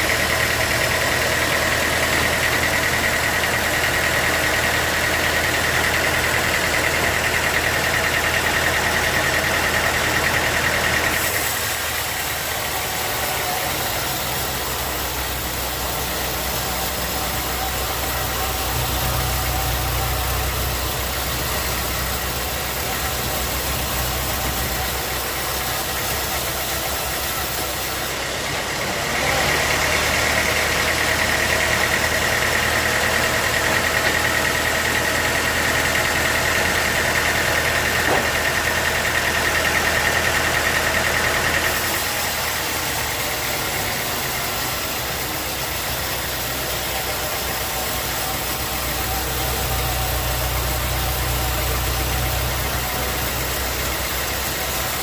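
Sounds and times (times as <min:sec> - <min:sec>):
saw whining through log: 0:00.0 - 0:55.0
sawmill machinery running: 0:00.0 - 0:55.0.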